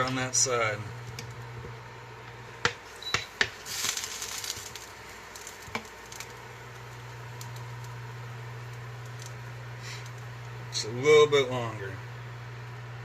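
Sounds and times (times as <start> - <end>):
food sizzling: 0.0 - 13.0.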